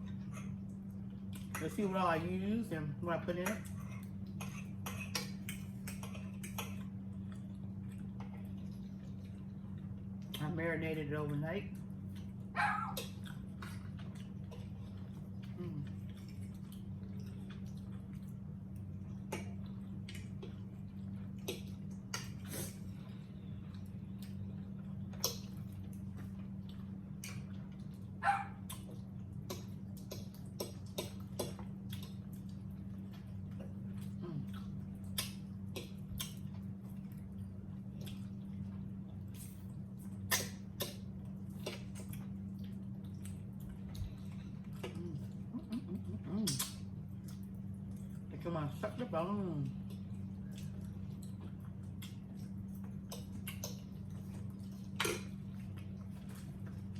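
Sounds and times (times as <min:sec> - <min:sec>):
chewing and lip smacks: 0:00.0 - 0:02.3, 0:03.3 - 0:10.6, 0:11.3 - 0:56.9
steady low hum: 0:00.0 - 0:56.9.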